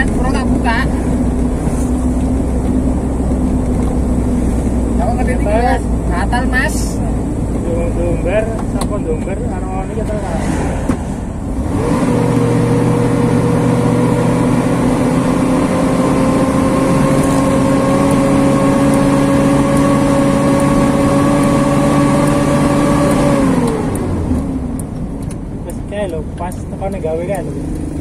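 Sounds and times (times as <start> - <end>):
vehicle engine accelerating: 0.0 - 25.8.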